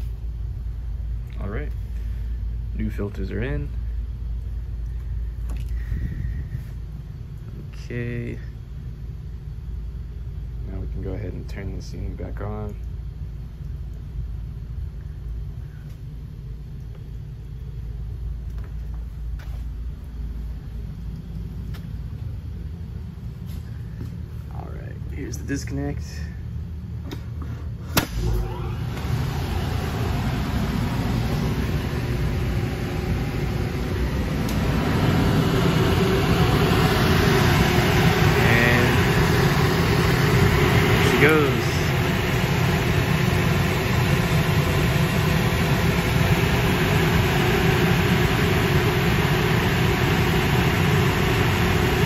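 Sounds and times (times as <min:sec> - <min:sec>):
air handler blower humming: 0:00.0 - 0:52.0
low mechanical rumble: 0:00.0 - 0:52.0.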